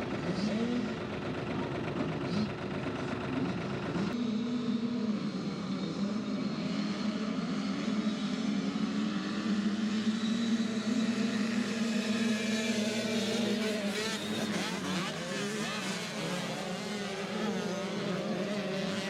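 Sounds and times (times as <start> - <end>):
dirt bike engines at high revs: 0.0 - 19.0.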